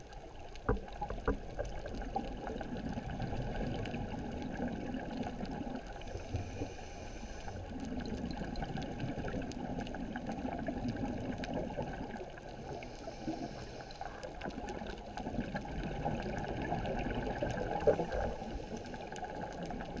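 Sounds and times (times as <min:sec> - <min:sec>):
faint underwater clicks: 0:00.0 - 0:20.0
underwater bubbling rumble: 0:00.0 - 0:20.0.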